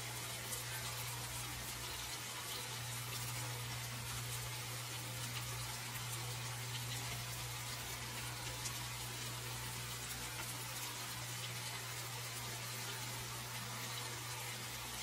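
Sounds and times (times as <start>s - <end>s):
chicken sizzling in hot oil: 0.0s - 15.0s
faint oil crackles: 0.0s - 15.0s.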